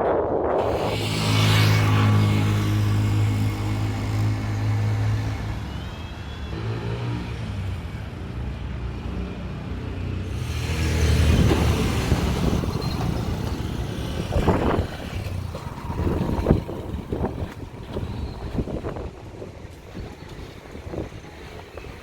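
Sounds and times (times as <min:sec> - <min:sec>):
vehicle passing: 0:00.6 - 0:08.1, 0:09.7 - 0:19.8.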